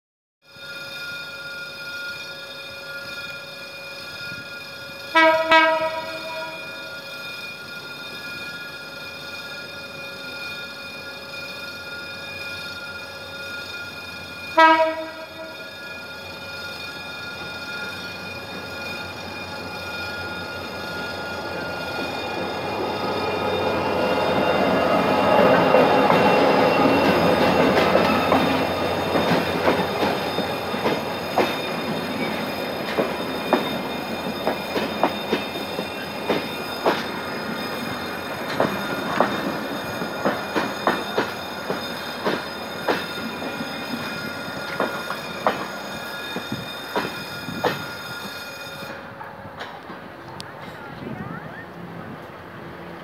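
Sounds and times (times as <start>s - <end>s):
diesel locomotive passing: 4.0s - 53.0s.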